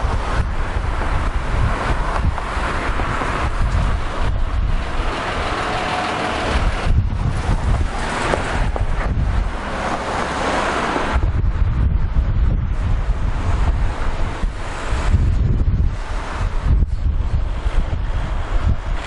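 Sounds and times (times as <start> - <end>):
traffic passing close by: 0.0 - 19.0
truck passing: 0.0 - 19.0
wind buffeting microphone: 0.0 - 19.0.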